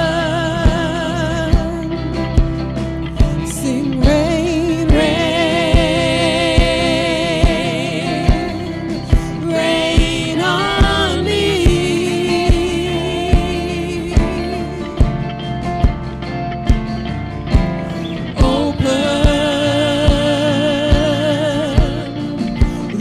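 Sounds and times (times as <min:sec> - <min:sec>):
women singing in harmony: 0:00.0 - 0:02.0, 0:03.3 - 0:15.3, 0:18.2 - 0:23.0
slow steady drum beat: 0:00.0 - 0:23.0.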